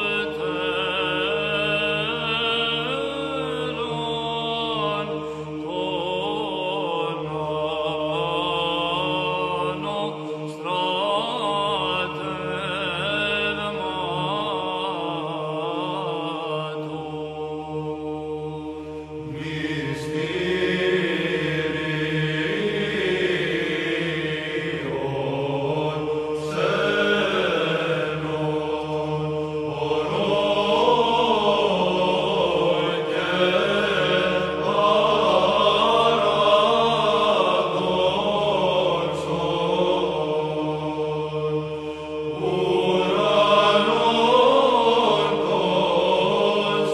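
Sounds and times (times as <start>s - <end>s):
choir chanting over drone: 0.0s - 46.9s.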